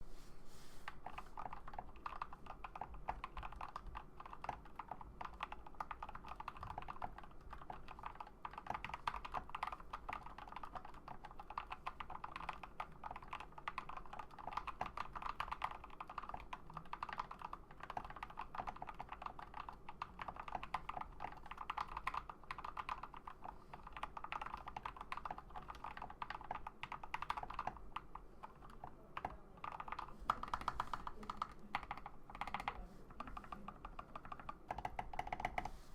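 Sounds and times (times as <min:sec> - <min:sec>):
fast typing on mechanical keyboard: 0:00.9 - 0:35.7.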